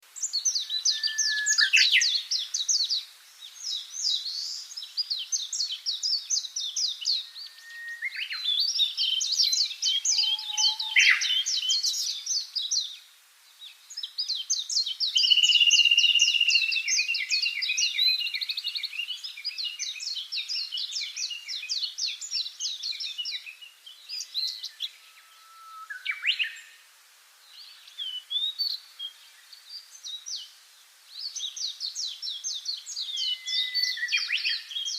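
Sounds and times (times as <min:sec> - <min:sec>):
songbirds twittering trills: 0:00.2 - 0:26.9, 0:27.5 - 0:34.9.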